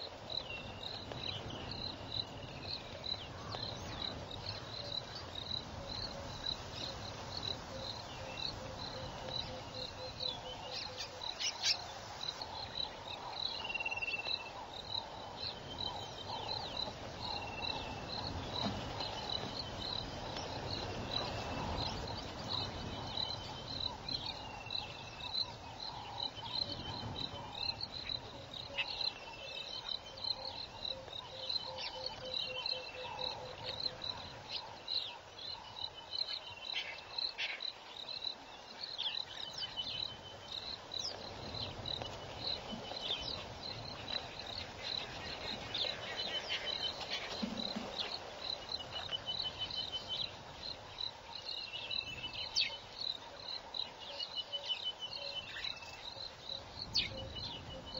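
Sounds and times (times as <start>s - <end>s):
insect chirping: 0.0s - 57.9s.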